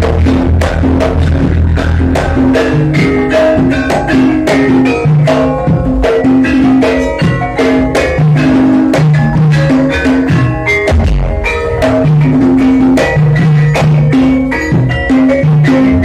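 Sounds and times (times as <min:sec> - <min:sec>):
loud music with drums and percussion: 0:00.0 - 0:16.0.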